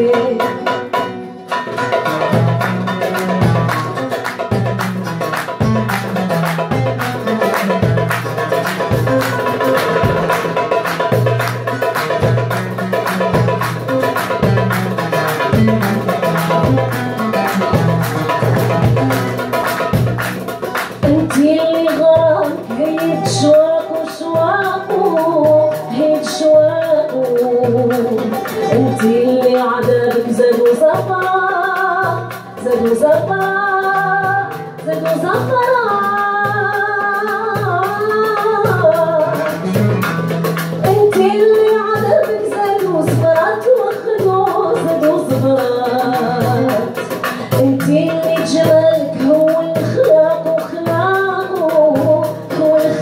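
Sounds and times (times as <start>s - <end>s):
mandole and acoustic guitar: 0.0s - 53.0s
woman singing: 0.0s - 53.0s.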